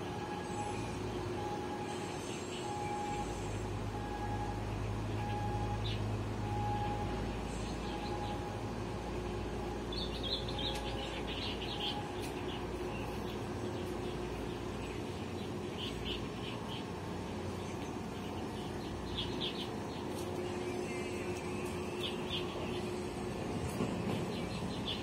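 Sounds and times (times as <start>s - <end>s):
steady low hum: 0.0s - 25.0s
small birds chirping: 0.4s - 25.0s.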